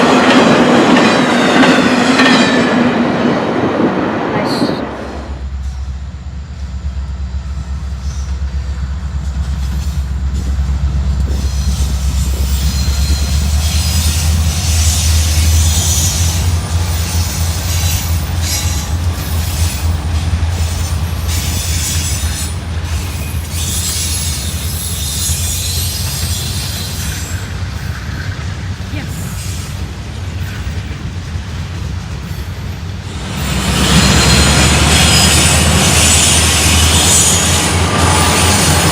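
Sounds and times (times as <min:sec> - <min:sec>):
high-pitched wheel-on-rail noise: 0:00.0 - 0:38.9
train rumbling past: 0:00.0 - 0:38.9.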